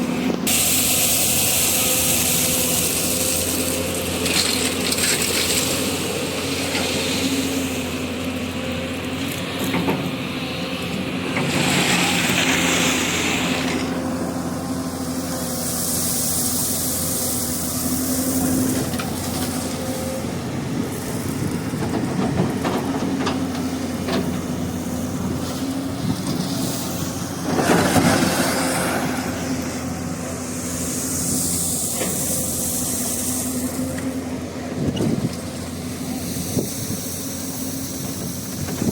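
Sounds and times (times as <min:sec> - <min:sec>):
excavator diesel engine running: 0:00.0 - 0:38.9
hydraulic hiss: 0:00.2 - 0:08.0, 0:11.2 - 0:20.4, 0:23.6 - 0:38.9.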